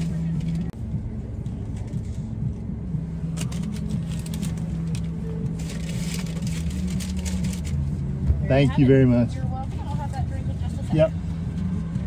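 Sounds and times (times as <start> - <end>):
car engine heard from inside: 0.0 - 12.0.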